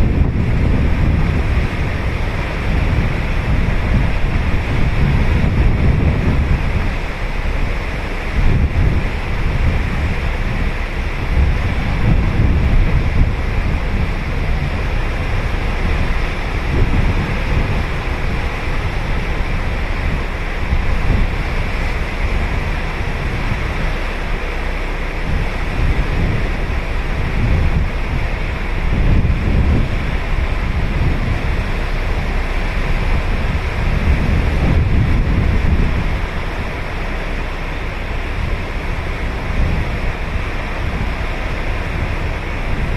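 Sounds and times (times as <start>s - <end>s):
waves breaking on beach: 0.0s - 42.9s
wind buffeting microphone: 0.0s - 42.9s.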